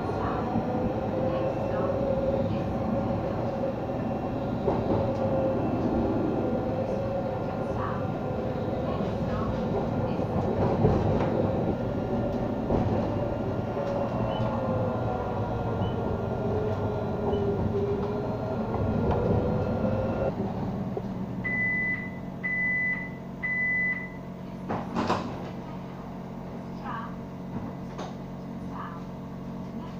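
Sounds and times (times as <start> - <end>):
tram running rumble: 0.0 - 23.6, 24.5 - 29.9.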